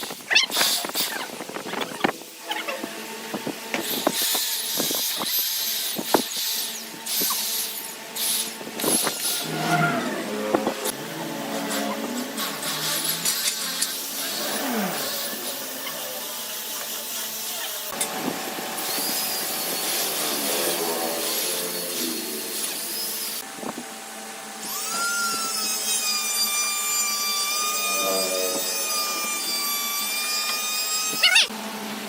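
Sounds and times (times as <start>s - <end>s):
power tools cutting wood: 0.0s - 31.6s
motor high whine: 0.0s - 32.0s.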